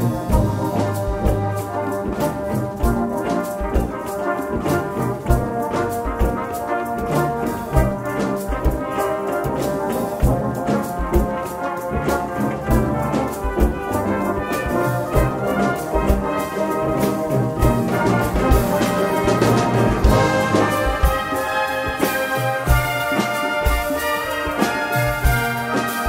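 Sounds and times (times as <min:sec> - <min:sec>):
brass band playing: 0:00.0 - 0:26.0
steady drum beat: 0:00.0 - 0:26.0.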